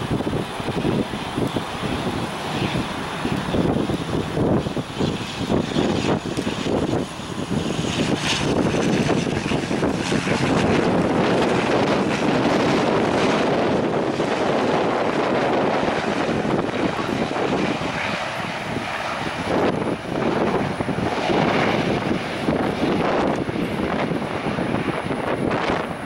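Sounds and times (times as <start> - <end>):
turboprop engines and propellers: 0.0 - 26.0.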